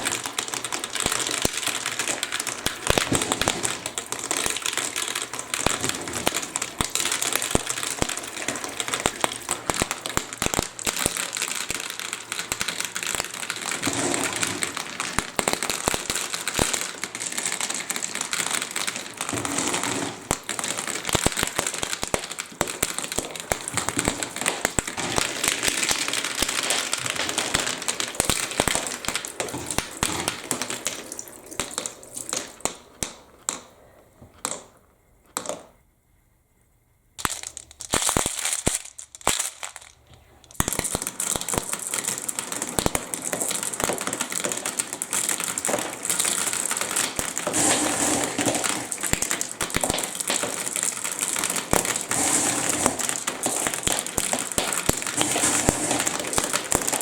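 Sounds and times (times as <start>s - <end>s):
marbles clattering down plastic run: 0.0s - 33.7s, 37.2s - 57.0s.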